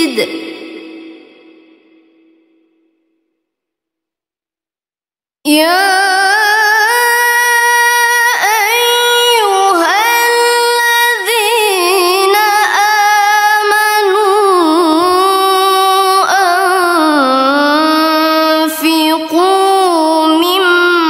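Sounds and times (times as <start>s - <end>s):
woman reciting melodically: 0.0s - 1.9s, 5.5s - 21.0s.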